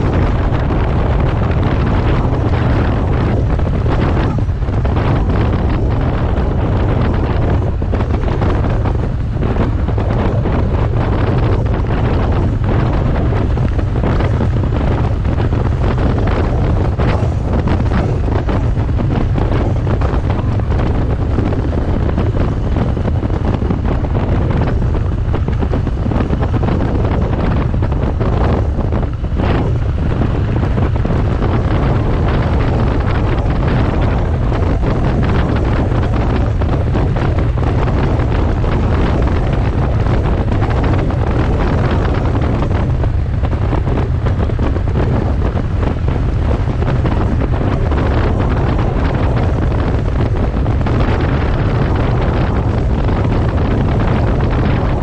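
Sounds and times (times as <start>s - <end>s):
motorcycle engine and road rumble: 0.0s - 55.0s
wind noise on microphone: 0.0s - 55.0s.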